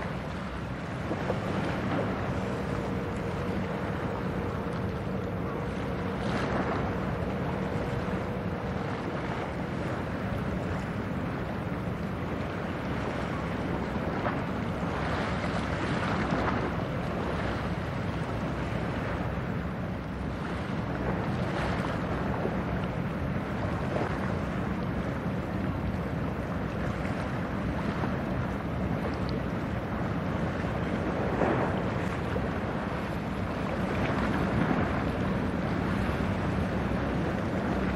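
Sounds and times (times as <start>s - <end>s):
ship engine drone: 0.0s - 37.9s
waves washing: 0.0s - 37.9s
wind buffeting microphone: 0.0s - 37.9s.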